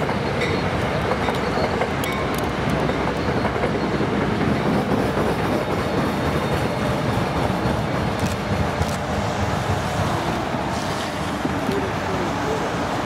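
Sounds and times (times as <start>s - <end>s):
locomotive passing: 0.0s - 13.0s
train rolling past: 0.0s - 13.0s.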